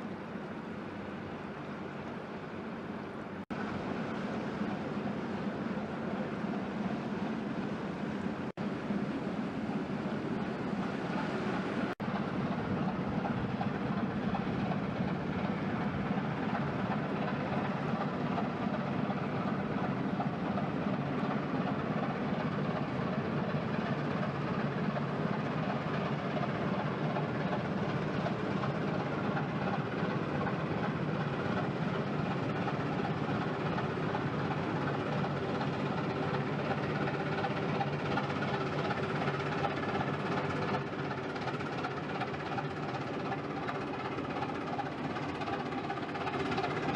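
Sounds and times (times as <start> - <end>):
barge diesel engine droning: 0.0 - 46.9.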